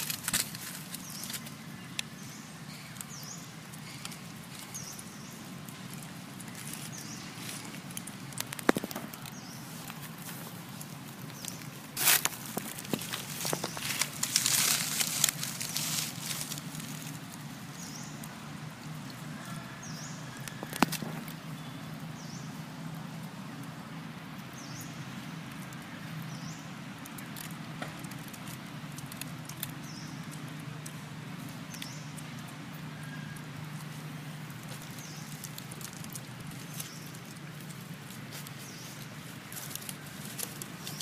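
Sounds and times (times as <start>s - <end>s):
dry leaves rustling: 0.0s - 41.0s
steady low hum: 0.0s - 41.0s.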